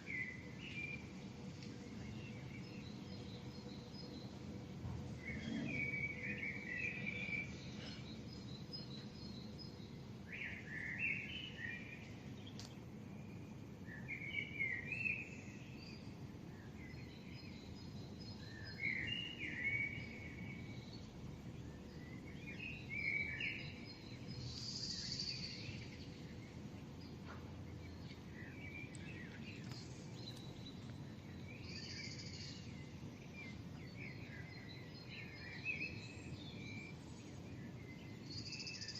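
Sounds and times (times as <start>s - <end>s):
birds chirping: 0.0s - 12.8s, 13.9s - 38.9s
low city hum: 0.0s - 38.9s.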